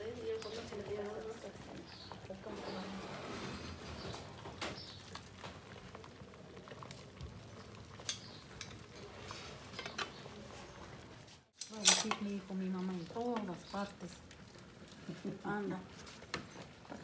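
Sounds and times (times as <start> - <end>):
food simmering hiss: 0.0 - 11.3, 12.0 - 17.0.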